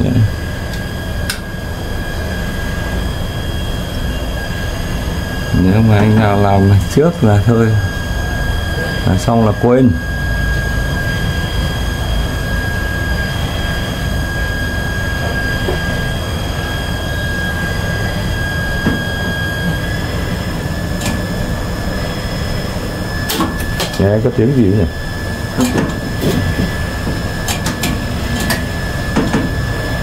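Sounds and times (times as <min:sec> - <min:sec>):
elevator machinery rumble and whine: 0:00.0 - 0:30.0.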